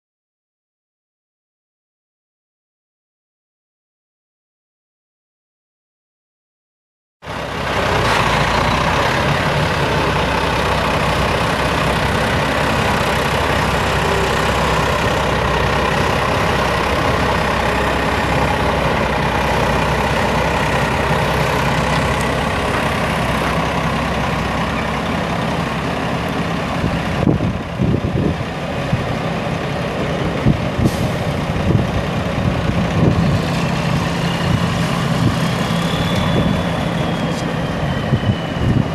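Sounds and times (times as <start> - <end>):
diesel truck engine running: 7.2 - 38.9.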